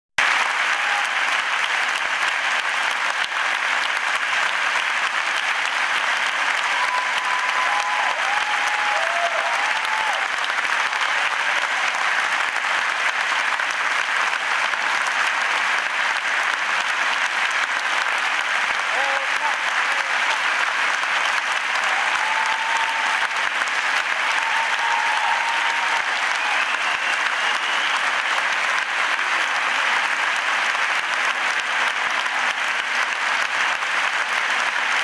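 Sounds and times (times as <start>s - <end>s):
audience applauding: 0.2s - 35.0s.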